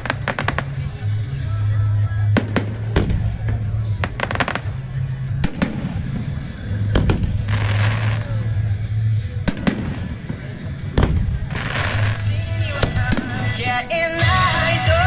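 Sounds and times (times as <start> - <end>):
fireworks bangs: 0.0 - 8.5, 9.4 - 13.9
music: 0.0 - 15.0.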